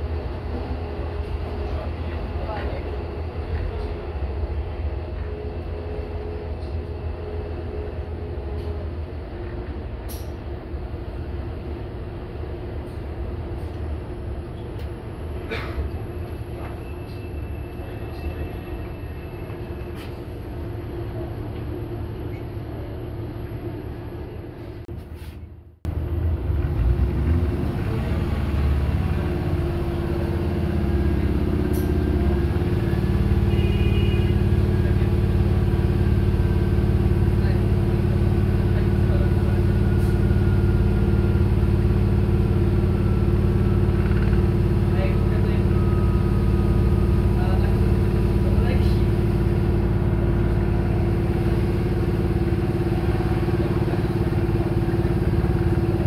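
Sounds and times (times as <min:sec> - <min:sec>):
diesel train rumbling on track: 0:00.0 - 0:56.0.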